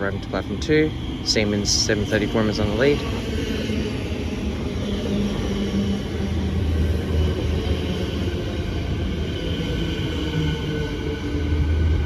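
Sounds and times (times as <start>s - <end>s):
train rumbling in: 0.0s - 12.0s.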